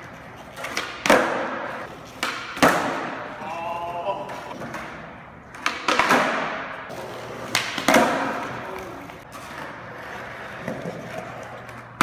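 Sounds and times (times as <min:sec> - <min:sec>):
skateboard clacking: 0:00.0 - 0:03.6, 0:04.2 - 0:12.0
skateboard rolling on concrete: 0:00.0 - 0:12.0.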